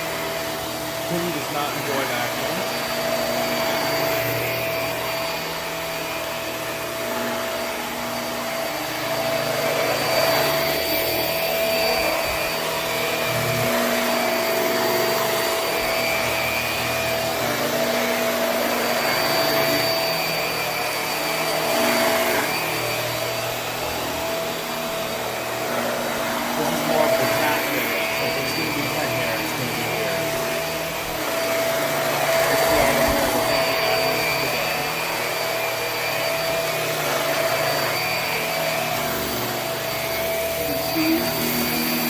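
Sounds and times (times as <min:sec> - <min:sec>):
vacuum cleaner running on carpet: 0:00.0 - 0:42.0.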